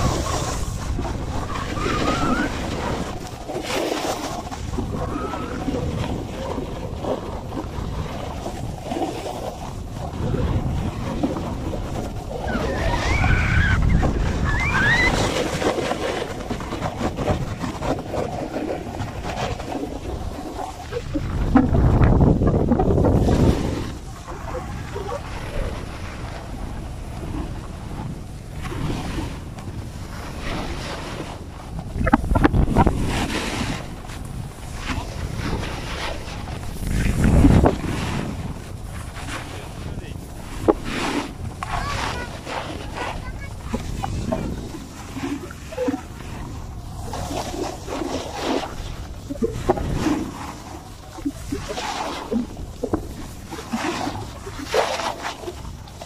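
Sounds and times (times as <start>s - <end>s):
snowboard sliding over snow: 0.0s - 54.6s
wind buffeting microphone: 0.0s - 56.0s.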